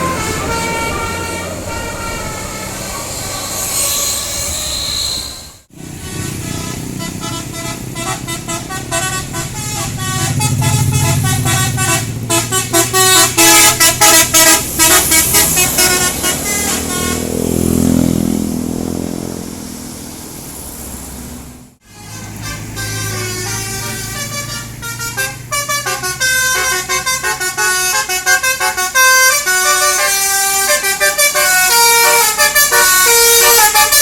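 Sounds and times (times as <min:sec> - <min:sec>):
bus engine running: 0:00.0 - 0:03.8, 0:05.6 - 0:34.0
musical air horn tune: 0:00.0 - 0:17.4, 0:21.8 - 0:34.0.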